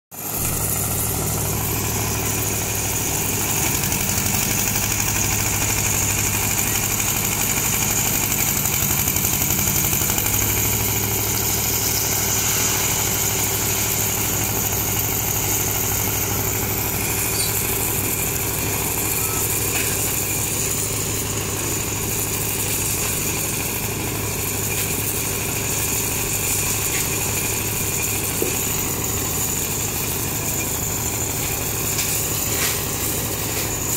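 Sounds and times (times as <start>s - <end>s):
concrete mixer engine running: 0.1s - 33.9s.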